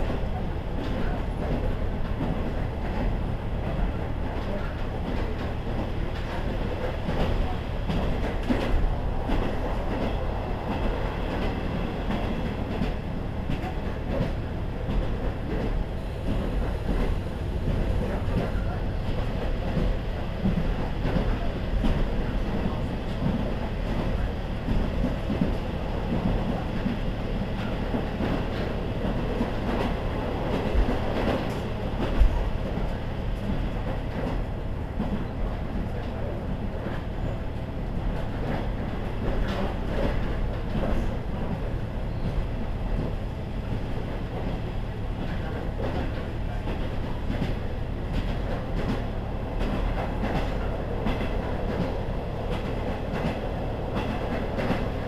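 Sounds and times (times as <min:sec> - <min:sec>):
diesel railcar rumbling: 0:00.0 - 0:55.0.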